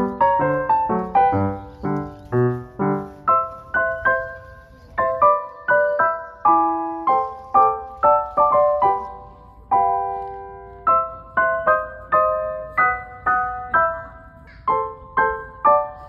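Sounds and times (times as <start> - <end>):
gentle piano tune: 0.0 - 16.0.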